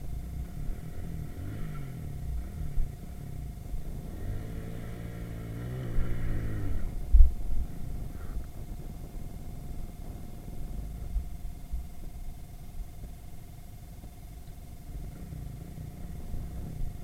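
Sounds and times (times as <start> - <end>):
moped engine running: 0.0 - 17.0
wind rumble on microphone: 0.0 - 17.0.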